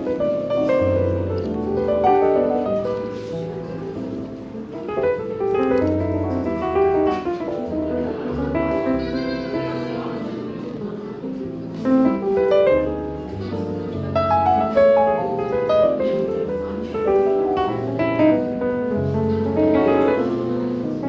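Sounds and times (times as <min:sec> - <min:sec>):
jazz piano music: 0:00.0 - 0:21.0.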